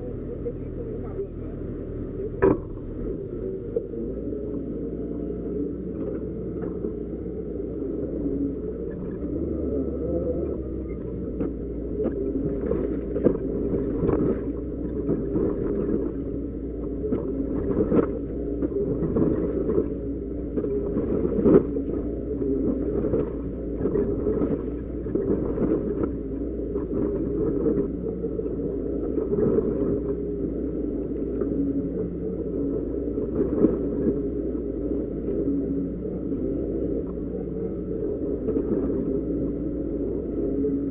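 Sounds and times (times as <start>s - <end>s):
diesel engine running: 0.0s - 33.2s.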